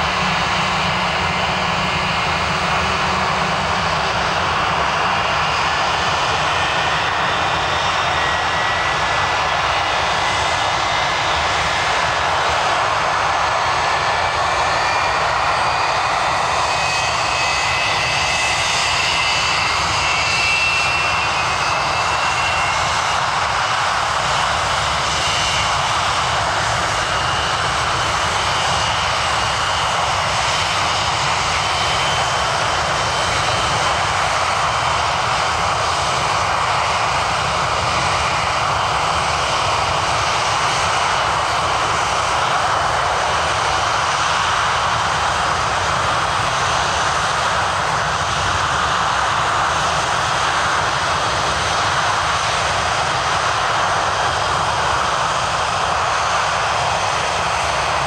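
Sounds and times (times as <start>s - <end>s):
jet engine roar with whine: 0.0s - 58.0s.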